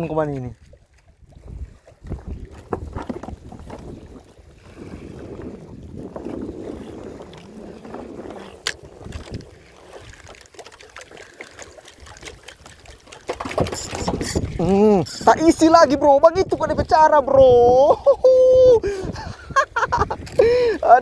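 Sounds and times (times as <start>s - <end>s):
wind buffeting microphone: 0.0s - 10.5s, 12.0s - 21.0s
water sloshing and lapping: 0.0s - 21.0s.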